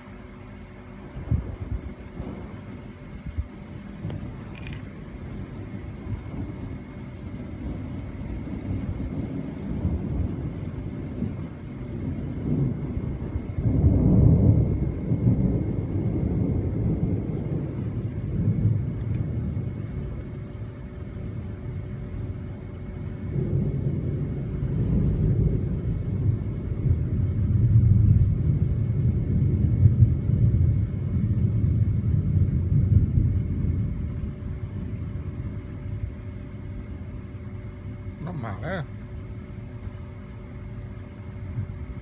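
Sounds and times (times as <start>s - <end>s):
thunder rumbling: 0.0s - 42.0s.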